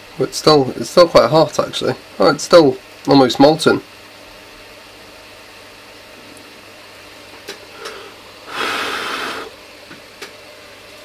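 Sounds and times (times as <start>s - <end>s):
cooling fans humming: 0.0s - 11.0s.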